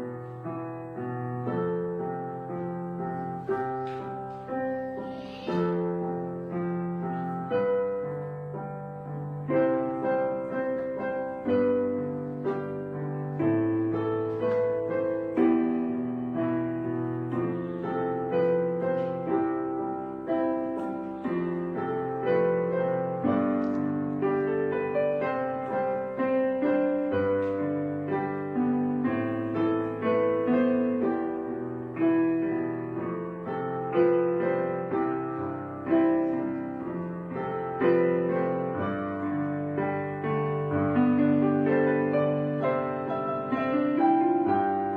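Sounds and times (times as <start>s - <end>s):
gentle solo piano: 0.0s - 44.9s.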